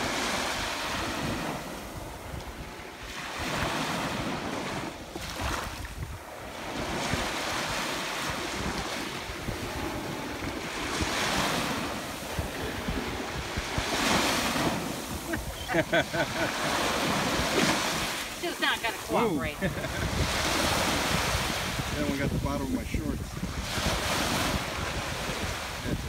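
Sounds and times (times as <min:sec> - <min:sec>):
small waves breaking on beach: 0:00.0 - 0:26.0
wind buffeting microphone: 0:00.0 - 0:26.0.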